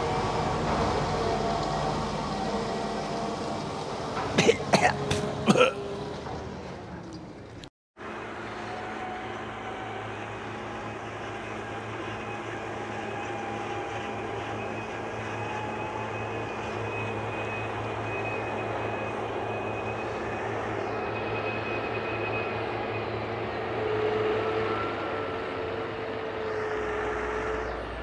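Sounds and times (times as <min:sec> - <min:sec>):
tractor engine running under load: 0:00.0 - 0:28.0.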